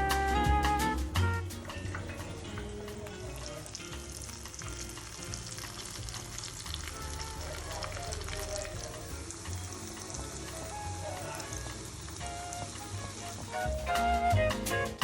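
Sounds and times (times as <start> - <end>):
background music: 0.0 - 15.0
food sizzling in hot oil: 1.5 - 14.0.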